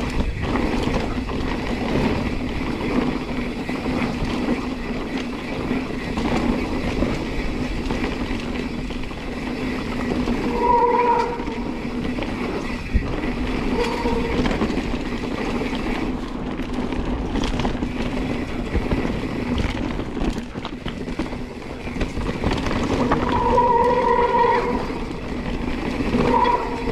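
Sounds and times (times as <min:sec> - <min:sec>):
bike rattling over bumps: 0:00.0 - 0:26.9
tyres rumbling over gravel: 0:00.0 - 0:26.9.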